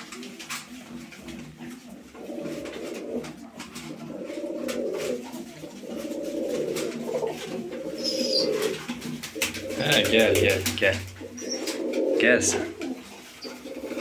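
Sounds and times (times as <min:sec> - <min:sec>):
beaks pecking grain: 0:00.0 - 0:14.0
pigeons cooing: 0:00.0 - 0:14.0.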